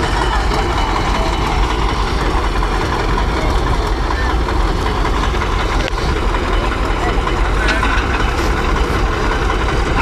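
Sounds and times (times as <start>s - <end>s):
heavy diesel engine rumble: 0.0s - 10.0s.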